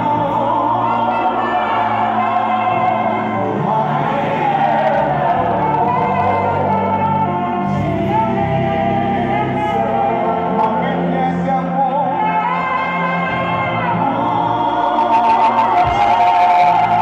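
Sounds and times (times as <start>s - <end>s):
backing singers: 0.0s - 17.0s
band playing gospel music: 0.0s - 17.0s
man singing lead: 0.0s - 17.0s.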